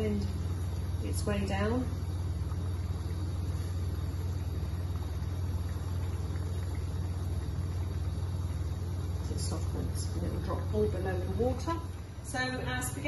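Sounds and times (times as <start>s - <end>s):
gas burners humming: 0.0s - 13.0s
sauce simmering: 0.0s - 13.0s
water boiling in a pan: 0.0s - 13.0s.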